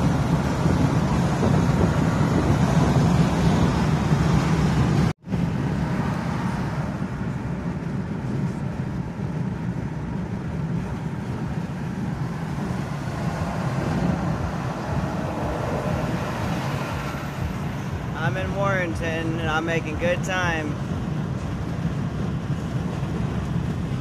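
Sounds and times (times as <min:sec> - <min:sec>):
road and engine noise in cabin: 0:00.0 - 0:24.0.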